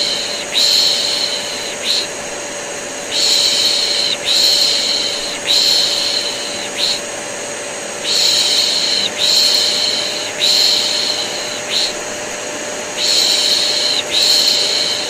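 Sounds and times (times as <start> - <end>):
vacuum cleaner humming: 0.0 - 15.0.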